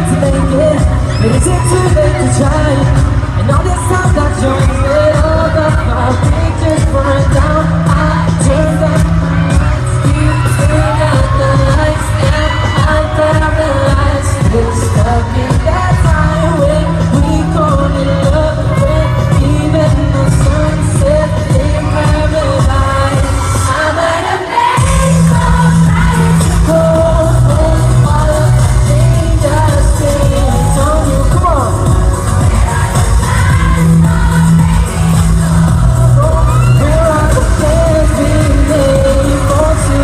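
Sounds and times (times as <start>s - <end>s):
live pop band with heavy bass: 0.0s - 40.0s
person singing: 0.0s - 40.0s.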